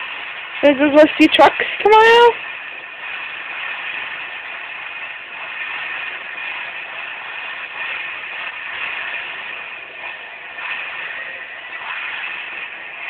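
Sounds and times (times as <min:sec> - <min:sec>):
truck engines through laptop speakers: 0:02.2 - 0:13.0.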